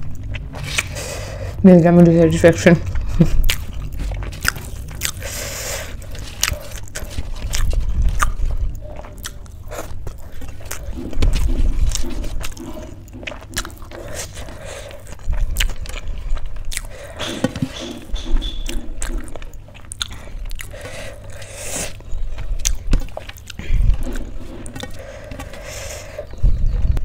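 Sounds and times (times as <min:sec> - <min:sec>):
wet rhythmic chewing: 0:00.0 - 0:27.0.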